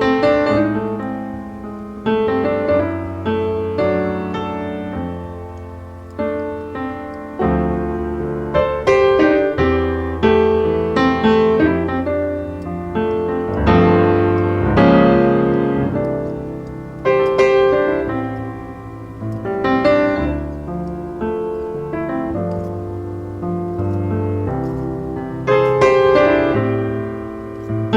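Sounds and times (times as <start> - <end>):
slow piano music: 0.0 - 27.9.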